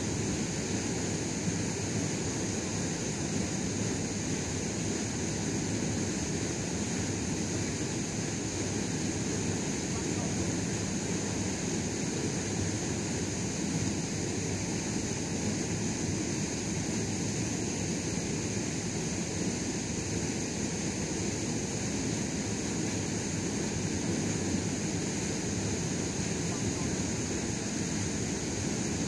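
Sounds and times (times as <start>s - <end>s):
constant high hiss: 0.0s - 29.0s.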